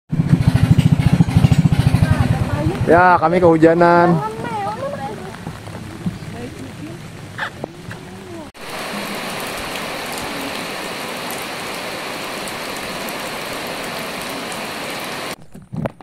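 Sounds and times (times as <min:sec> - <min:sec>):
steady rain: 0:02.2 - 0:15.4.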